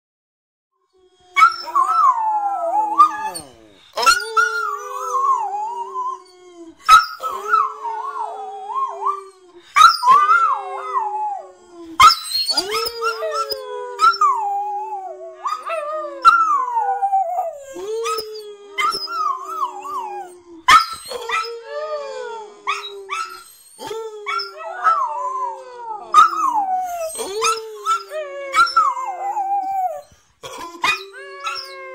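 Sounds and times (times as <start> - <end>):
dogs howling: 1.2 - 30.1.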